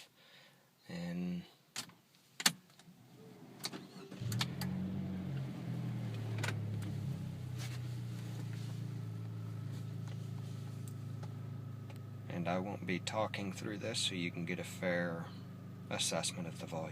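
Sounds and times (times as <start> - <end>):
car engine starting and idling: 2.3 - 16.9.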